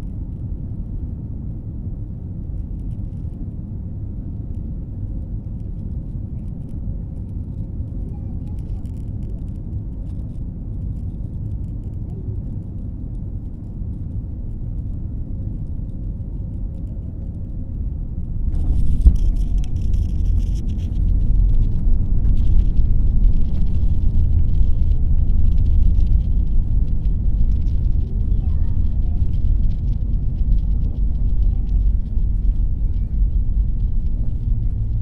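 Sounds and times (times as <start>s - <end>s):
landing aircraft rumble: 0.0s - 35.0s.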